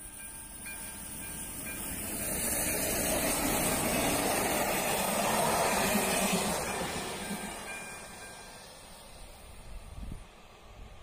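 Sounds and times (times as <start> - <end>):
passenger train passing: 0.0 - 11.0.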